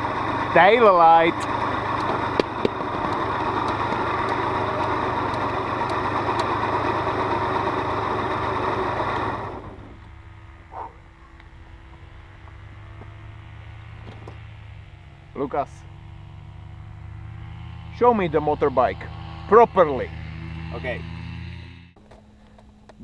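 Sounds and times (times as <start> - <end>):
motorbike engine idling: 0.0 - 20.9.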